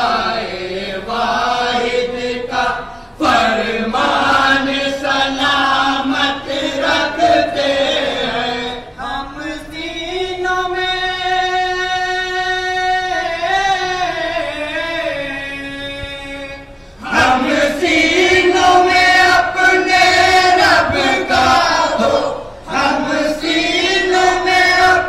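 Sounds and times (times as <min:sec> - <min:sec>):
person singing unaccompanied: 0:00.0 - 0:25.0.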